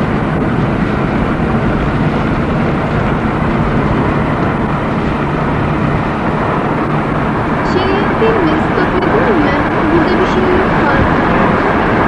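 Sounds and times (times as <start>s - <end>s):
car driving inside cabin: 0.0s - 12.0s.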